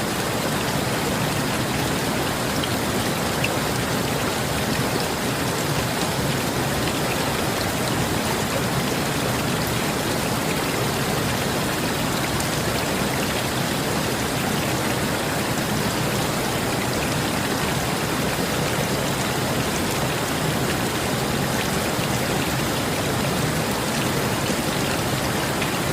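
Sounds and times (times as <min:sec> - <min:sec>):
river flowing: 0:00.0 - 0:25.9
rain pattering: 0:00.1 - 0:25.9.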